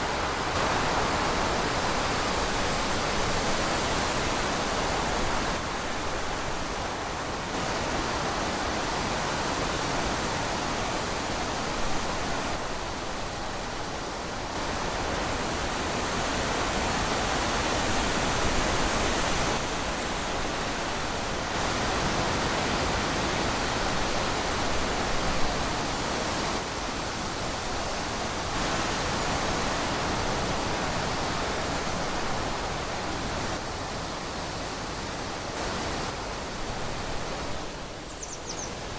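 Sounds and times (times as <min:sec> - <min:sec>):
wind blowing in gusts: 0:00.0 - 0:38.9.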